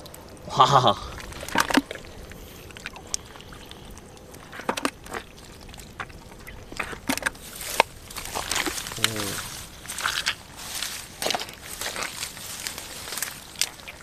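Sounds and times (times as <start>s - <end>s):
hands squelching in mud: 1.0s - 14.0s.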